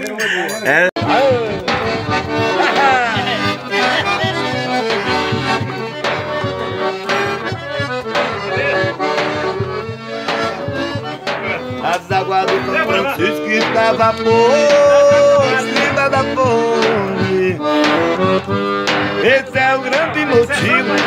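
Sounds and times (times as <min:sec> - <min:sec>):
accordion playing a tune: 0:00.0 - 0:21.0
bass drum strokes: 0:01.0 - 0:21.0.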